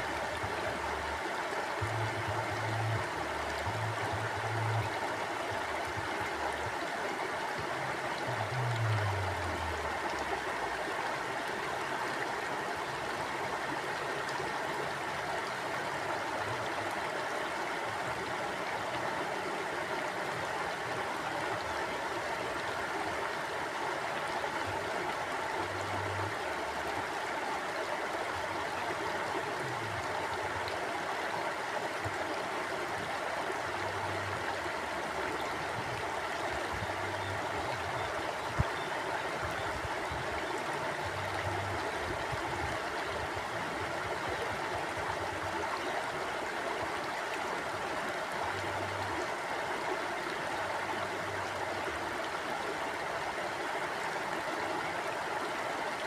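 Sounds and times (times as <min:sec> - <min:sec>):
stream water flowing over rocks: 0:00.0 - 0:56.0.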